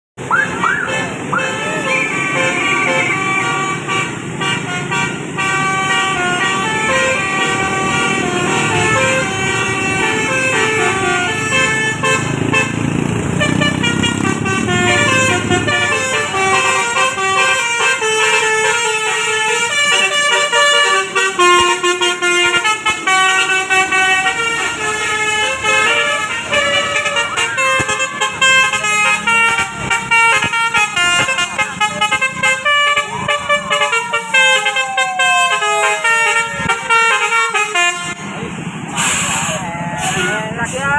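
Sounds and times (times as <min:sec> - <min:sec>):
musical bus horn tune: 0:00.2 - 0:40.6
bus engine rumbling: 0:00.2 - 0:40.9.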